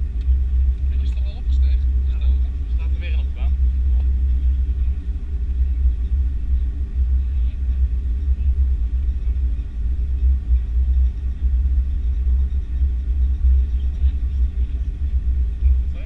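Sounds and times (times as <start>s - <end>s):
airliner engine rumble: 0.0s - 16.0s.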